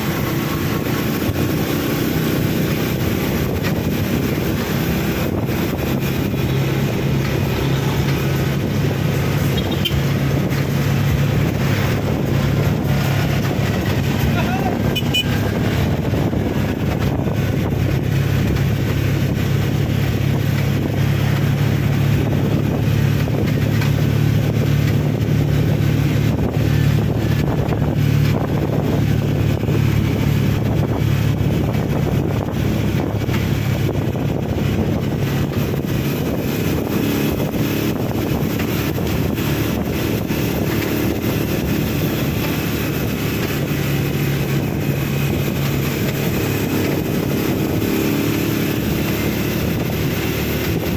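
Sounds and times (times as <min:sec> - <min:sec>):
vehicle engine running: 0:00.0 - 0:50.9
wind noise on microphone: 0:00.0 - 0:50.9.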